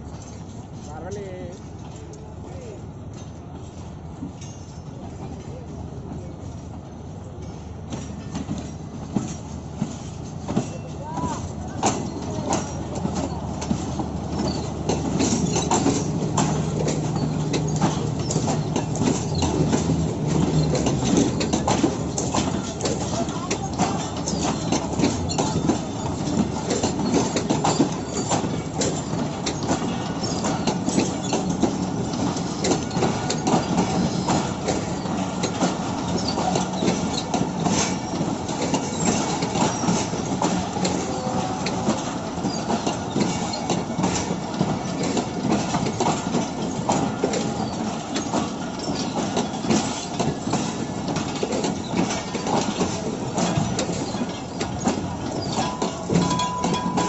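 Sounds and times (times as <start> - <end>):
train wheels clattering on track: 0.0 - 57.0.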